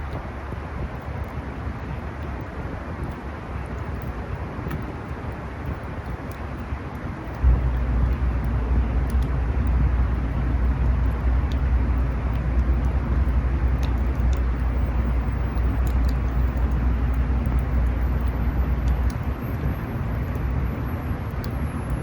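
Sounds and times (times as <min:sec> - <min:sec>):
wind rumble on microphone: 0:00.0 - 0:22.0
campfire crackling: 0:00.9 - 0:21.6.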